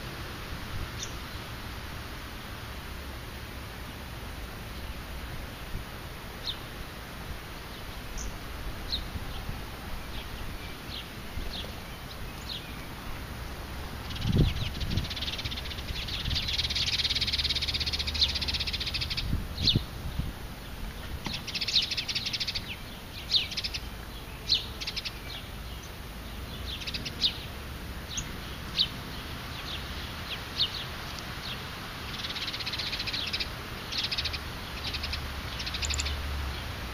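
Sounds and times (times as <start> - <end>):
songbirds chirping: 0.0 - 36.9.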